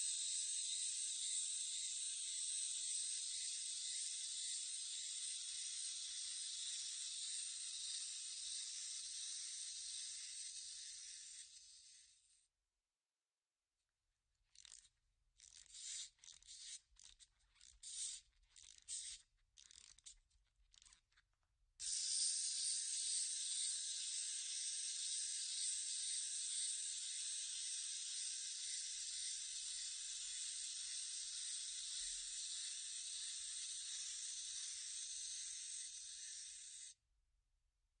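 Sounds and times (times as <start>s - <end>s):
wind-up toy rasping: 0.0s - 12.3s, 14.5s - 21.2s, 21.8s - 37.0s
spring motor whirring: 0.1s - 12.2s, 15.4s - 21.0s, 21.8s - 37.0s.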